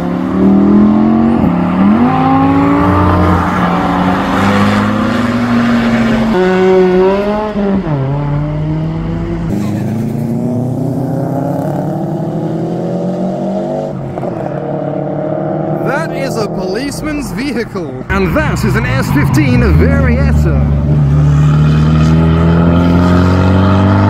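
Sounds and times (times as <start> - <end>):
car engine accelerating: 0.0 - 17.3, 18.1 - 24.0.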